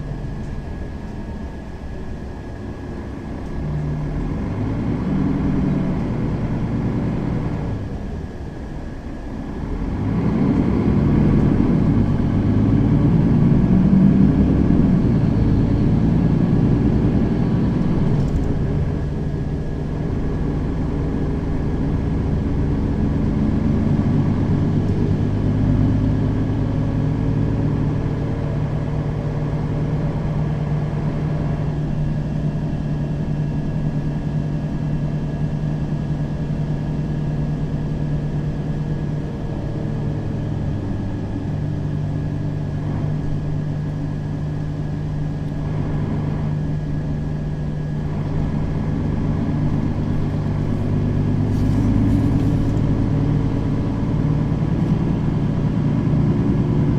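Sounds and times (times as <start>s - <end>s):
bus engine drone: 0.0s - 56.9s.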